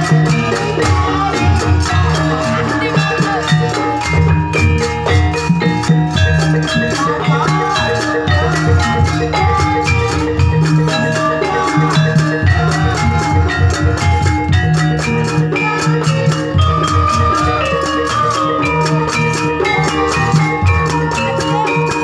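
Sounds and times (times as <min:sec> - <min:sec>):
drums beating: 0:00.0 - 0:22.0
gamelan dance music: 0:00.0 - 0:22.0
ringing metallophone notes: 0:00.0 - 0:22.0.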